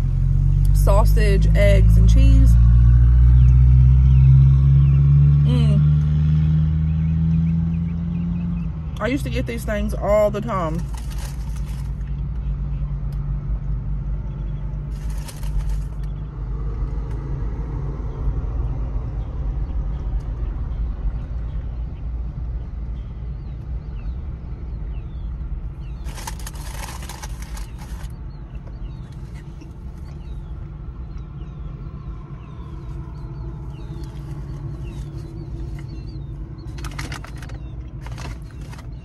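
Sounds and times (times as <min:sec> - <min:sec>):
motor vehicle idling: 0:00.0 - 0:39.0.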